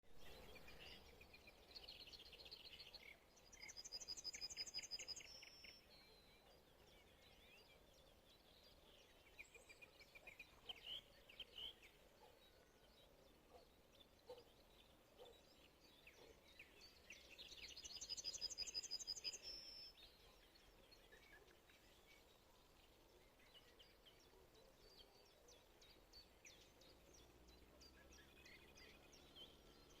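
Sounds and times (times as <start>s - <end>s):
faint birdsong: 0.0s - 30.0s.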